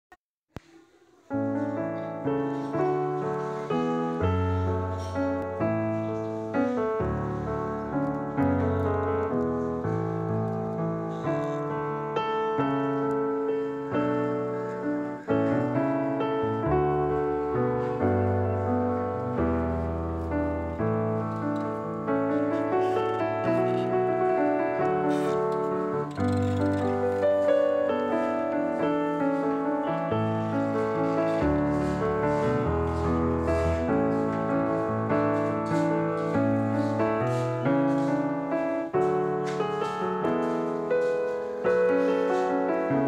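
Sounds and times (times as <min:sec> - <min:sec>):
piano music: 0:00.6 - 0:43.0.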